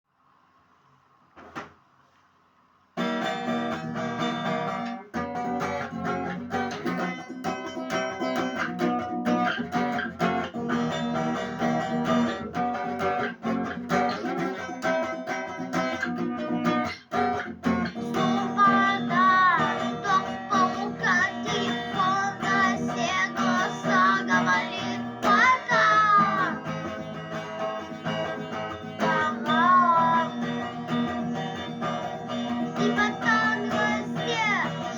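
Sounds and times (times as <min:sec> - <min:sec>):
rock music with strummed guitar: 0:03.0 - 0:34.9.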